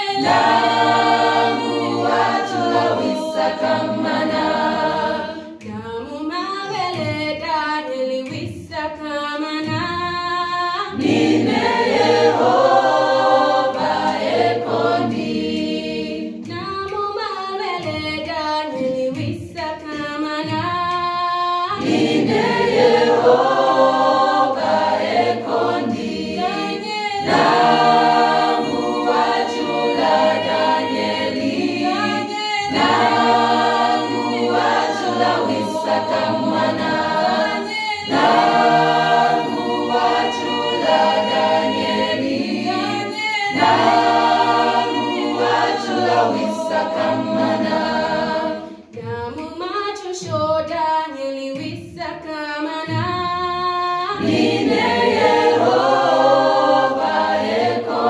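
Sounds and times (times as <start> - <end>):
choir singing a cappella: 0.0 - 8.9, 9.6 - 58.0.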